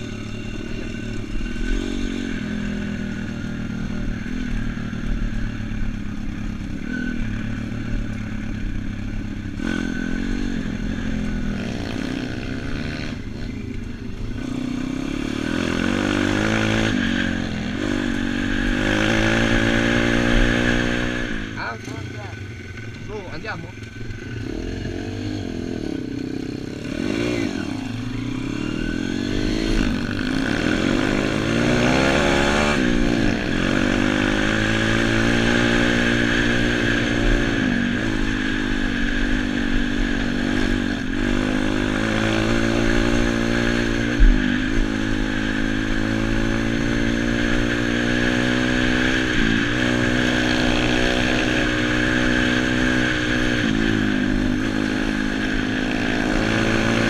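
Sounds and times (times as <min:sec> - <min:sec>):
motorbike engine accelerating: 0:00.0 - 0:57.0.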